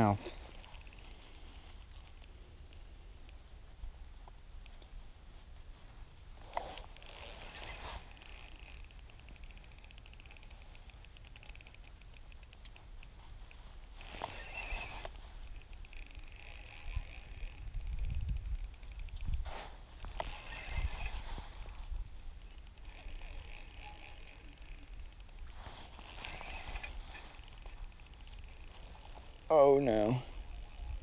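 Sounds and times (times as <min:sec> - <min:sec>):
spinning reel ticking: 0:00.0 - 0:03.5, 0:06.5 - 0:31.0.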